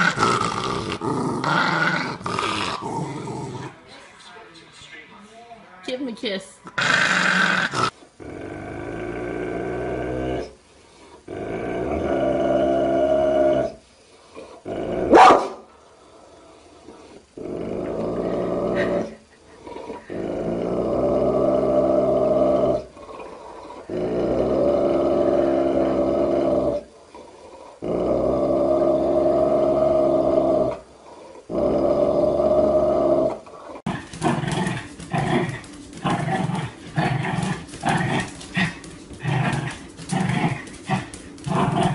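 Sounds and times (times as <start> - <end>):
dog growling: 0.0 - 3.9, 6.6 - 15.3, 16.0 - 41.9.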